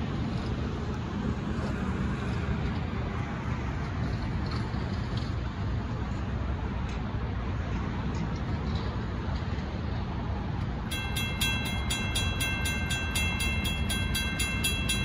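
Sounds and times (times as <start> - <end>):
highway traffic hum: 0.0 - 15.0.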